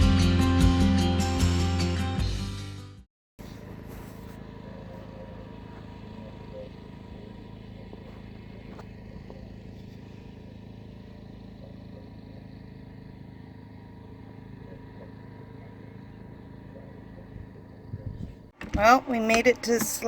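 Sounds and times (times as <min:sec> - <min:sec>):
engine humming steadily: 0:00.0 - 0:02.4, 0:03.4 - 0:20.0.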